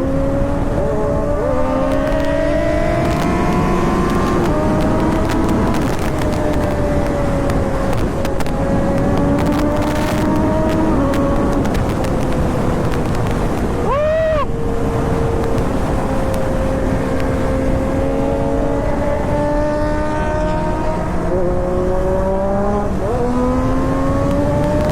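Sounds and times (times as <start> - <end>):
motorcycle engines running: 0.0 - 24.9
rush of noise: 0.0 - 24.9.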